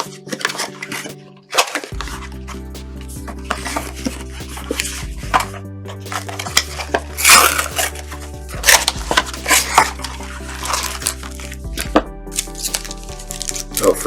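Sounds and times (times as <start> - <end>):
card wrappers crinkling: 0.0 - 14.0.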